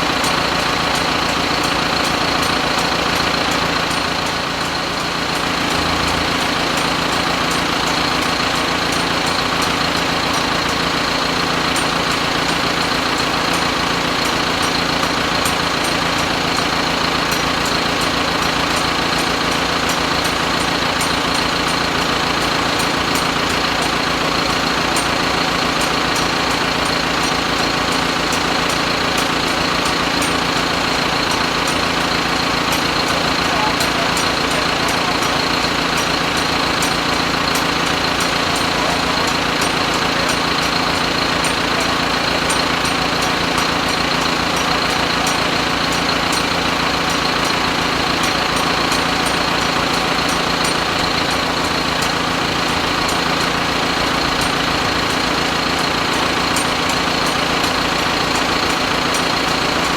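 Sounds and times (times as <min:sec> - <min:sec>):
engine idling with ticking: 0:00.0 - 0:59.9.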